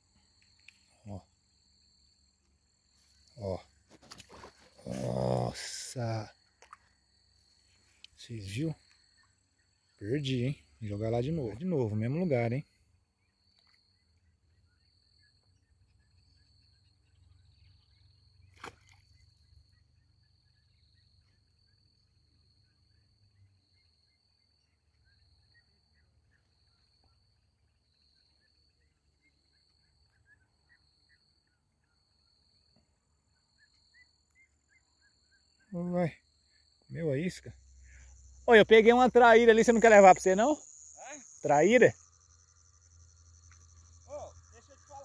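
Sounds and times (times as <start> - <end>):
faint insect trill: 0.0 - 45.0.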